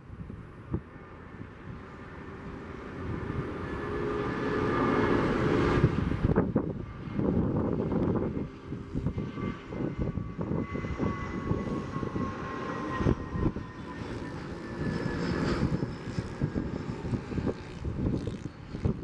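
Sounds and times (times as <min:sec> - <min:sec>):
jet engines rumbling with whine: 0:00.0 - 0:19.0.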